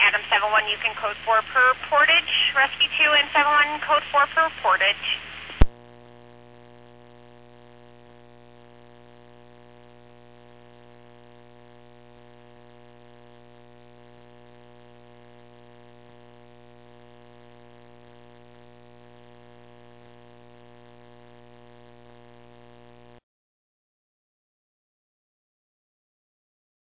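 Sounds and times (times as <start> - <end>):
faint electrical hum: 0.0 - 21.6.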